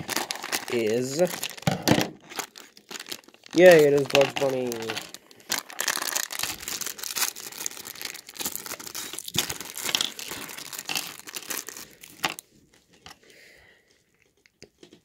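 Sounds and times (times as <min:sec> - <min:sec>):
plastic bag crinkling and tearing: 0:00.0 - 0:13.2.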